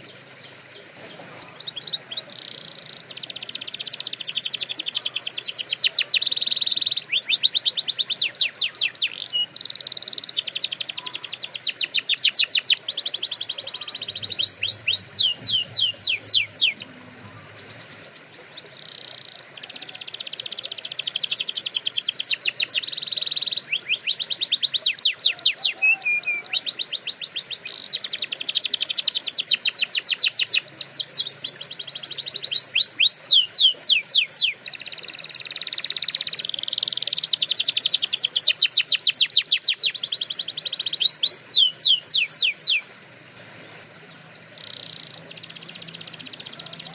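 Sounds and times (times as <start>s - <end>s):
canary singing trills: 0.0s - 42.9s, 44.0s - 46.9s.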